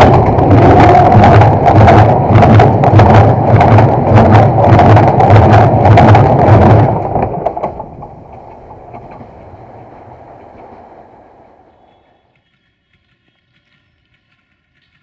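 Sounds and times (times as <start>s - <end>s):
heavy train rumble: 0.0s - 12.4s
wheels clattering over rails: 0.0s - 15.0s.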